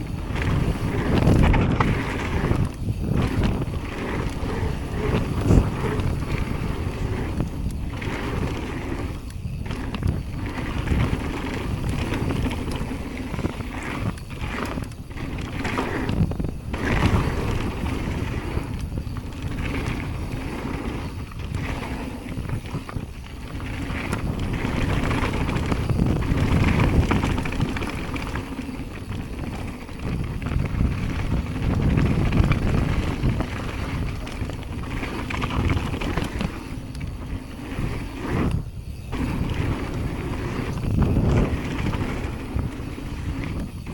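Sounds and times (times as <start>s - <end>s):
bike knocks and clatter: 0.0s - 43.9s
bike tyres rolling over dirt: 0.0s - 43.9s
wind buffeting microphone: 0.0s - 43.9s.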